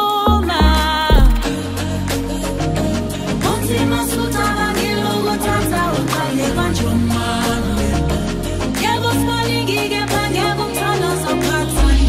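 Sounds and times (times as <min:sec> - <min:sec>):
dance music over sound system: 0:00.0 - 0:12.0.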